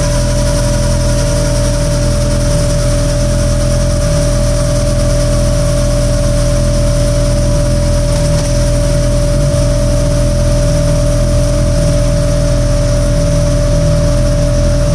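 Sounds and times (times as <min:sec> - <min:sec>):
motorcycle engine running steadily: 0:00.0 - 0:14.9
steady high tone: 0:00.0 - 0:14.9.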